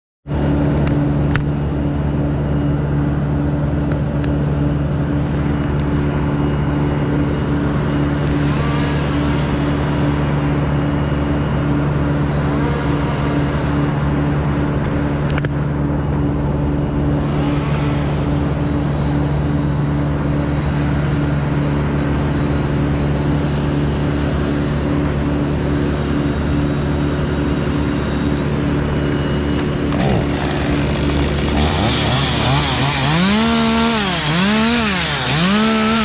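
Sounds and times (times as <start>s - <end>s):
engine running steadily: 0.3s - 36.0s.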